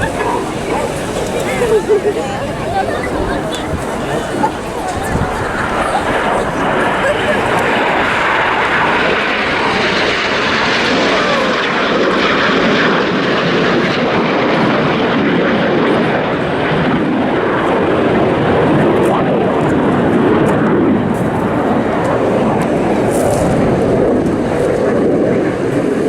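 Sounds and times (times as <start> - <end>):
jets flying past: 0.0 - 26.0.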